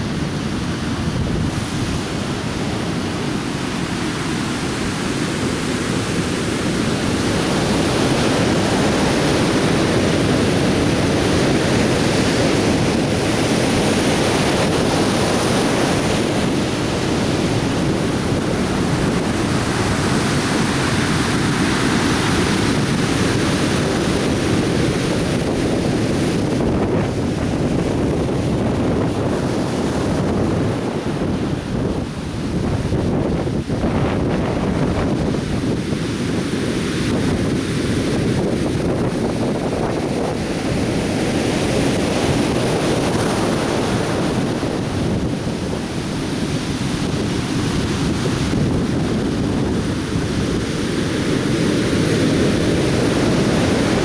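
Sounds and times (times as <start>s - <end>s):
surf breaking on beach: 0.0s - 54.0s.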